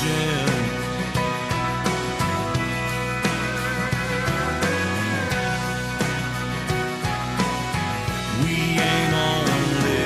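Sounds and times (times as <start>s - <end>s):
country band playing instrumental: 0.0s - 10.0s.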